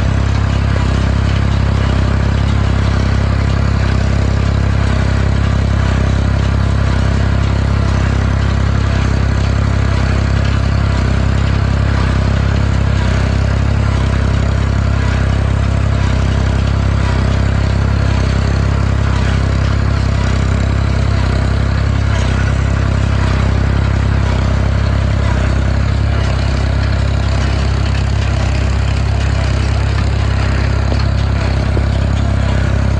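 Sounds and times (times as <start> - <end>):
heavy machinery engine droning: 0.0 - 32.9.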